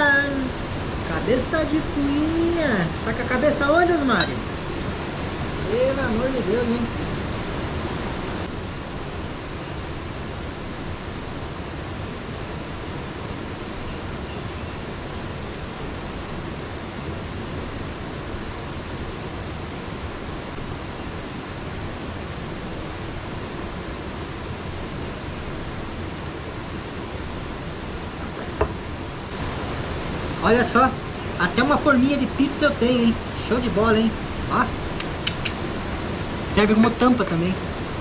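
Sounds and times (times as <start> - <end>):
steady rushing noise: 0.0 - 38.0.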